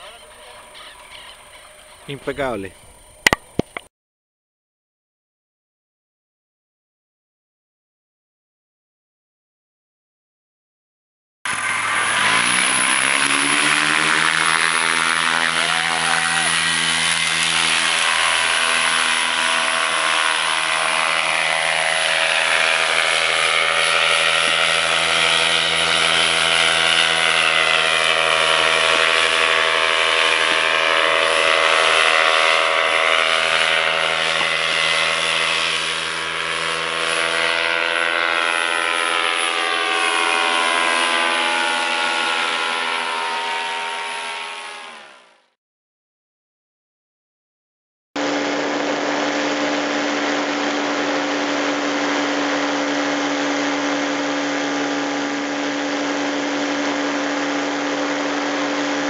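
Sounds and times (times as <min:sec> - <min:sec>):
paramotor engine and propeller: 0:00.0 - 0:03.9, 0:11.5 - 0:45.6, 0:48.2 - 0:59.0.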